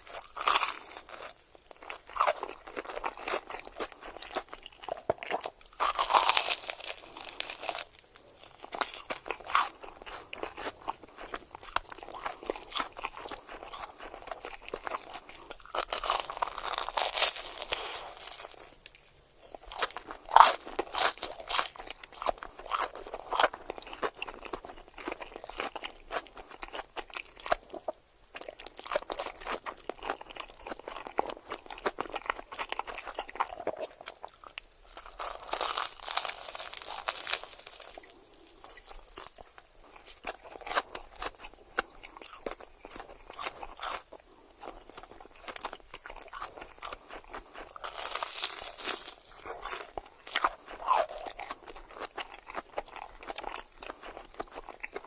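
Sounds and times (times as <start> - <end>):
crunchy food chewing: 0.0 - 55.0.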